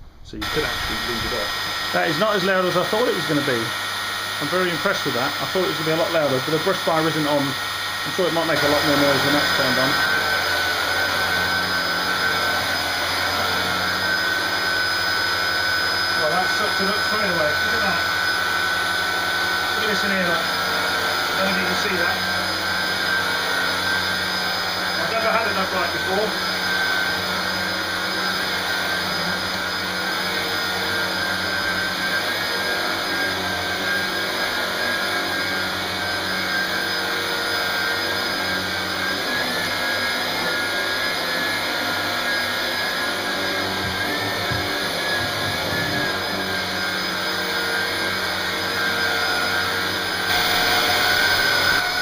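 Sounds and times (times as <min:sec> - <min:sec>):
vacuum cleaner running on carpet: 0:00.3 - 0:52.0.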